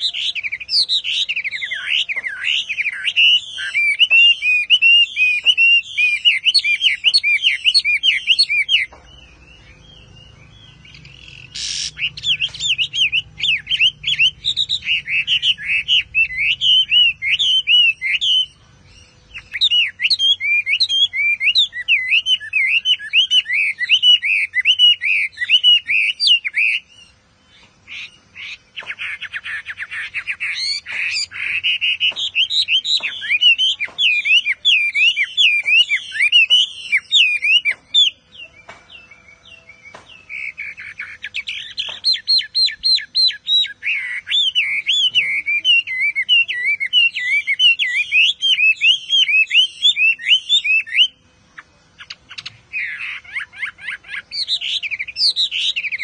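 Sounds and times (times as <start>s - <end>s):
songbird whistling song: 0.0s - 56.0s.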